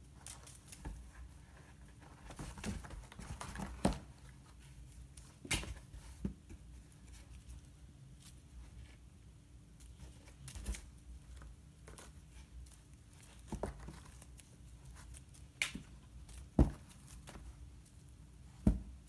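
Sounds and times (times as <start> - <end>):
kittens' paws scuffling on carpet: 0.0 - 18.7.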